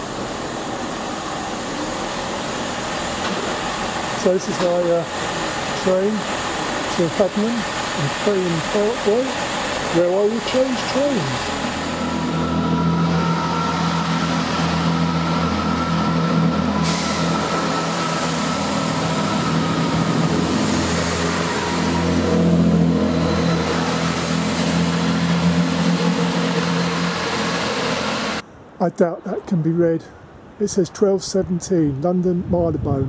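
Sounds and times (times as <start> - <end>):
diesel train engine drone: 0.0 - 30.9.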